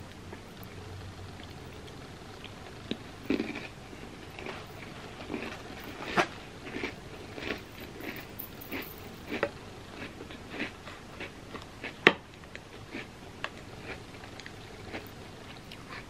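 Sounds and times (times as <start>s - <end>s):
person chewing crunchy cookies: 0.1s - 16.0s.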